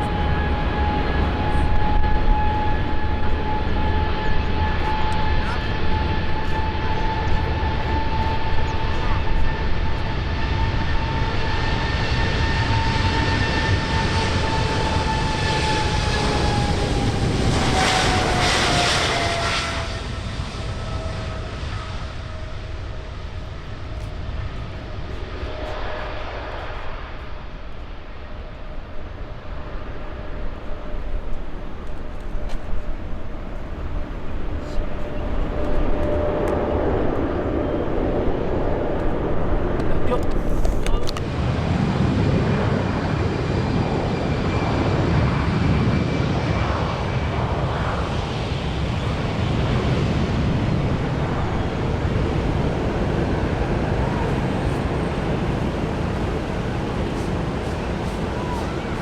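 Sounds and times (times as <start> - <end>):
jet airliner passing: 0.0 - 59.0.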